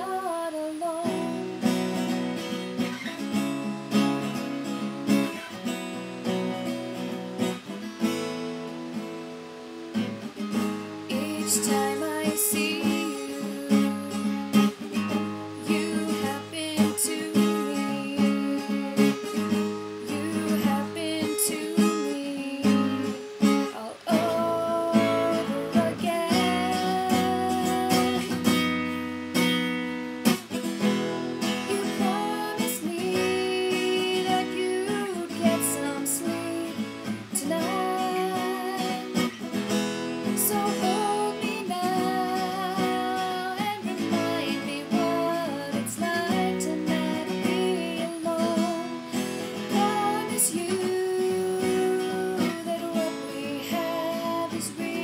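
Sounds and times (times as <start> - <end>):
woman singing: 0.0 - 7.5, 10.5 - 55.0
acoustic guitar strummed: 0.0 - 55.0.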